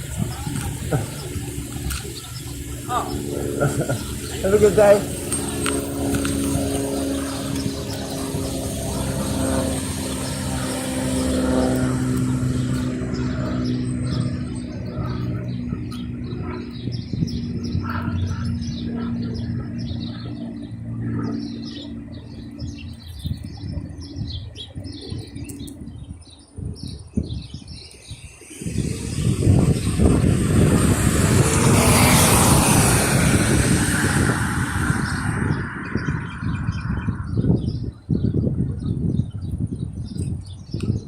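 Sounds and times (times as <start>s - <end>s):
small birds chirping: 0.0s - 41.0s
vehicle engine hum: 0.0s - 41.0s.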